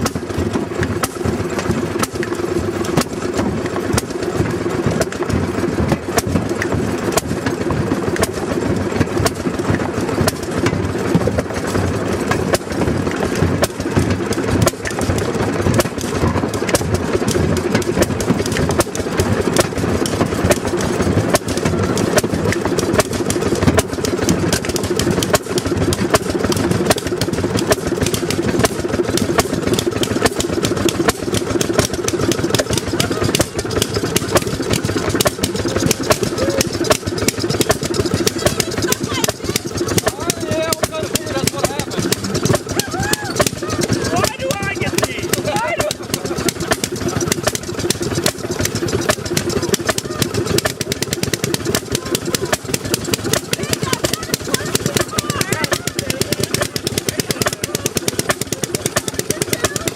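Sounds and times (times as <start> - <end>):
sharp clicks and rattles: 0.0 - 59.9
track motor car engine running: 0.0 - 59.9.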